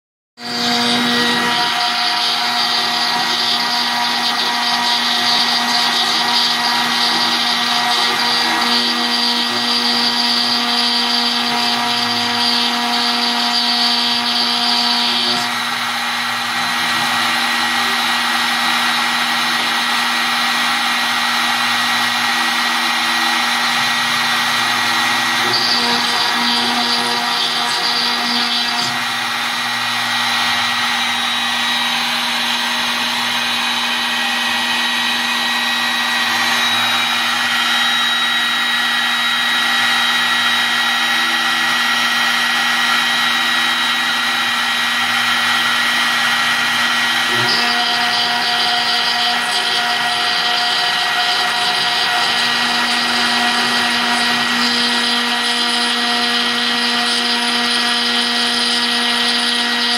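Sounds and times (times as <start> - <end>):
router spindle whine: 0.4 - 59.9.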